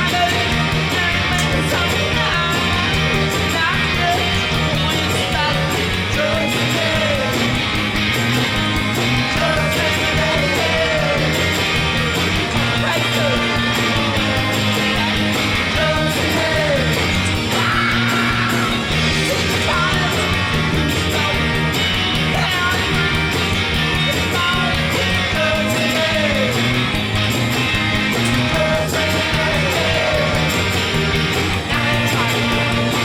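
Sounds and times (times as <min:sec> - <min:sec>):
loud rock music: 0:00.0 - 0:33.0.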